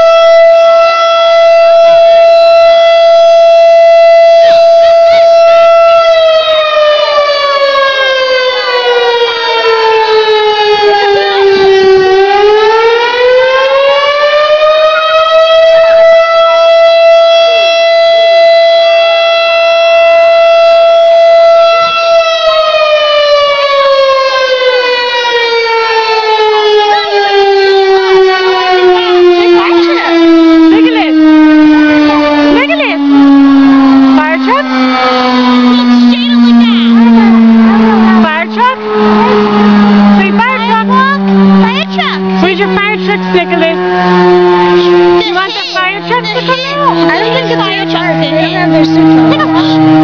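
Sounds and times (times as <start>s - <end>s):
fire siren rising and falling: 0.0s - 50.0s.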